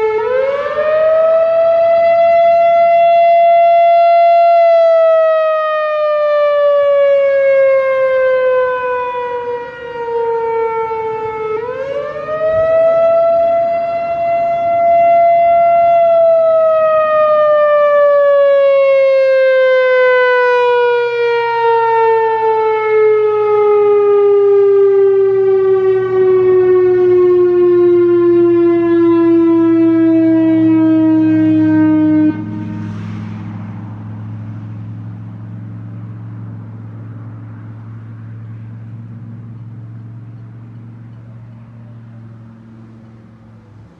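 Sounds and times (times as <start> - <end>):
outdoor warning siren: 0.0 - 43.9.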